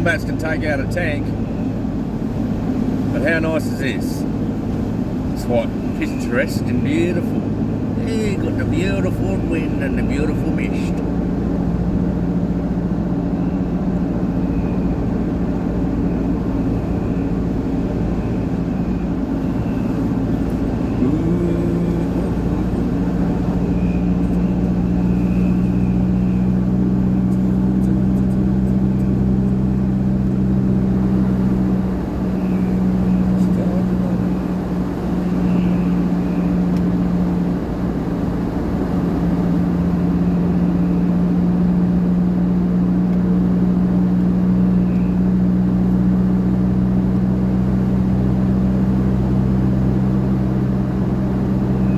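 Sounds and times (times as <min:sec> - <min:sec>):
car engine running: 0:00.0 - 0:51.9
road noise: 0:00.0 - 0:51.9.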